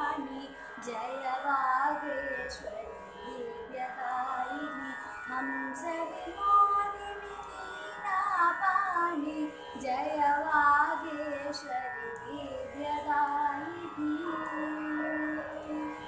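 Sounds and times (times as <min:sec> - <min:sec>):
girl singing devotional song: 0:00.0 - 0:15.8.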